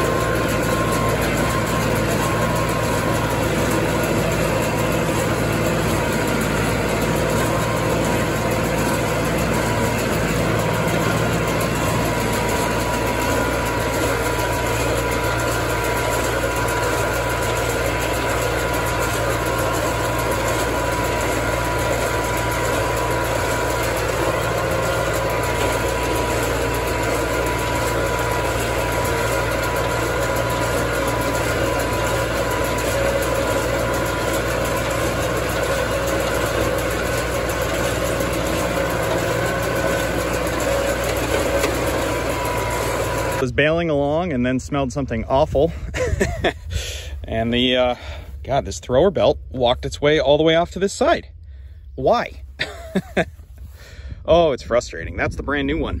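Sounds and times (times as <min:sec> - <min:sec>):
hay baler whine: 0:00.0 - 0:56.0
tractor engine running: 0:00.0 - 0:56.0.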